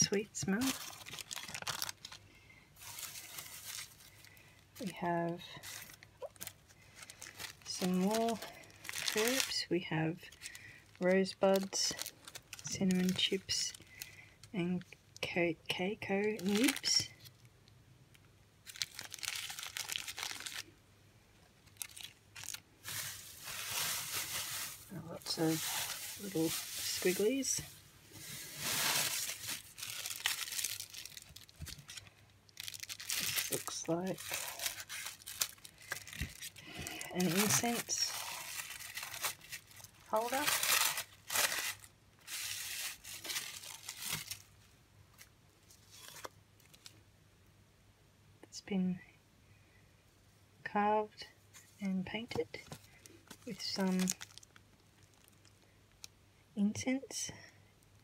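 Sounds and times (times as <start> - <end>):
plastic bag crinkling: 0.0 - 14.6, 16.0 - 17.5, 18.2 - 20.7, 21.6 - 47.0, 52.5 - 56.1.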